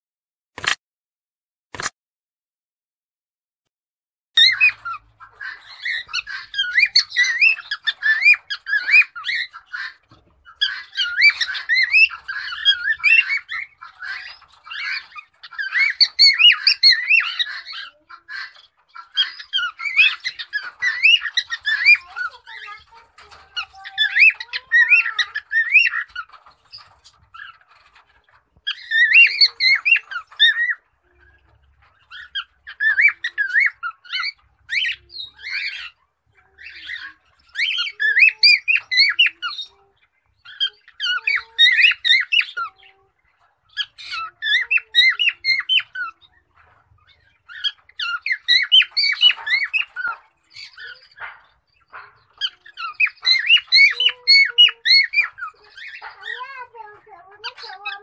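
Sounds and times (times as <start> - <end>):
cockatiel warbling and whistling: 4.4 - 30.8, 32.0 - 39.8, 40.4 - 43.0, 43.7 - 58.0.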